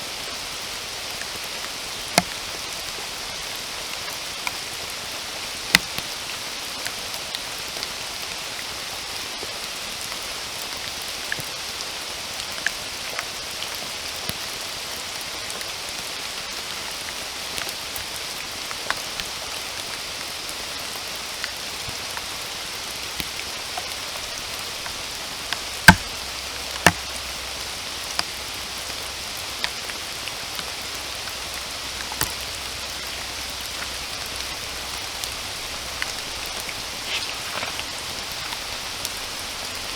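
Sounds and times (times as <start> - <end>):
steady rain hiss: 0.0 - 39.9
raindrops ticking close by: 0.1 - 39.9
heavy water drips: 0.5 - 8.0, 9.3 - 39.9.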